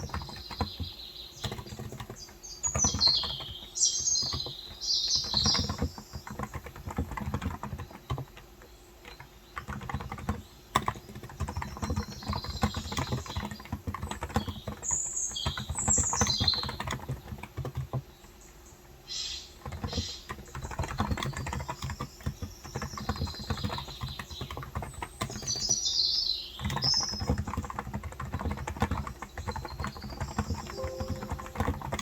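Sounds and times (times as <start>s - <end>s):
keyboard typing: 0.0s - 18.4s, 19.5s - 32.0s
birds chirping: 0.0s - 27.9s, 28.7s - 32.0s.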